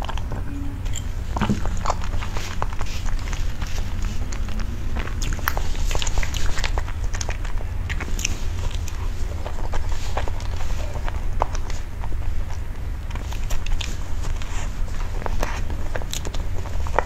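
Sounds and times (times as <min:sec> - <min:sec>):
soft wet eating sounds: 0:00.0 - 0:17.0
steady low hum: 0:00.0 - 0:17.0.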